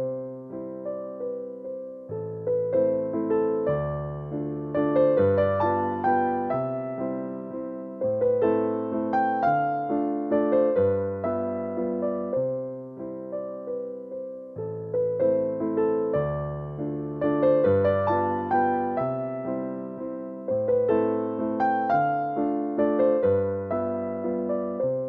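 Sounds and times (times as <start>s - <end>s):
slow piano melody: 0.0s - 25.0s.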